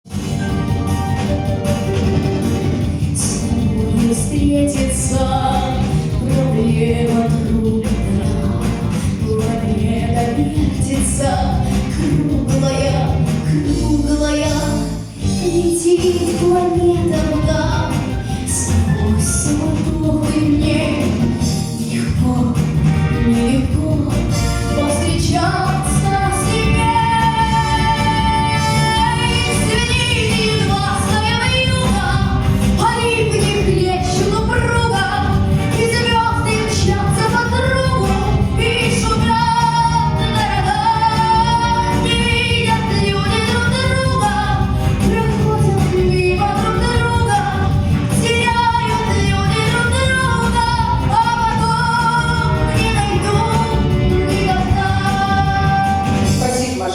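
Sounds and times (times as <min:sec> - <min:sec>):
instrumental accompaniment: 0:00.1 - 0:56.9.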